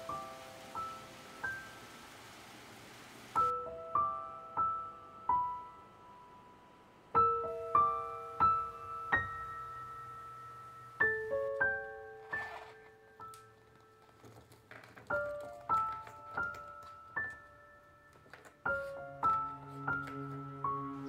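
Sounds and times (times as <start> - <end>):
slow solo piano: 0.0 - 21.0.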